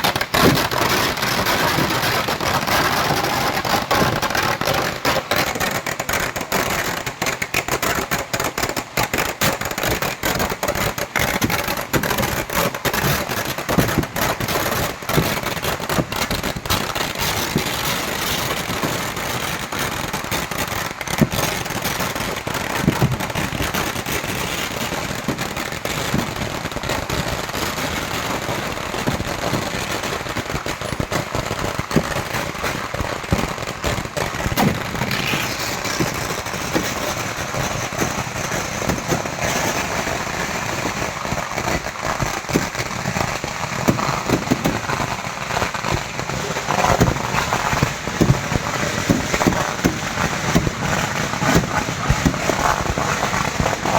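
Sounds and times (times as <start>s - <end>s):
firecrackers going off: 0.0s - 53.9s.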